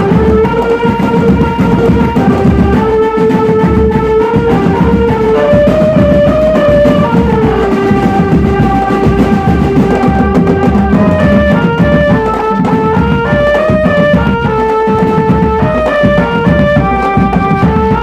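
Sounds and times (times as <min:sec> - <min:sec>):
dense drumming: 0:00.0 - 0:18.0
held melody notes: 0:00.0 - 0:18.0.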